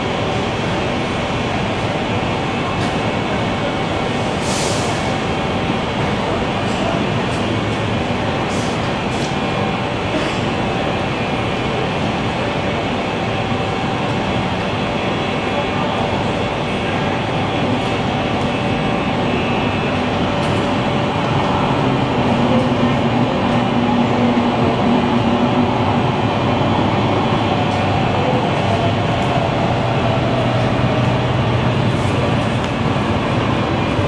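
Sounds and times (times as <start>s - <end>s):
station platform rumble: 0.0s - 34.0s
train motor hum: 5.3s - 34.0s.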